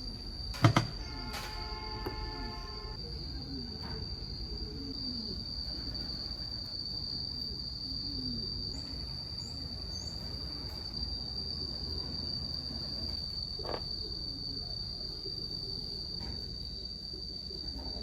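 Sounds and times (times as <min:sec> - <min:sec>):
high-pitched insect trill: 0:00.0 - 0:18.0.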